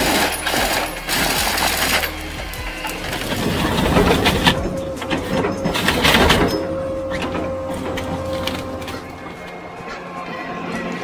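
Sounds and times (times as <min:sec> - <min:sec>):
wood and metal clattering: 0:00.0 - 0:10.2
engine hum: 0:00.0 - 0:11.0
hydraulic whine: 0:00.0 - 0:11.0.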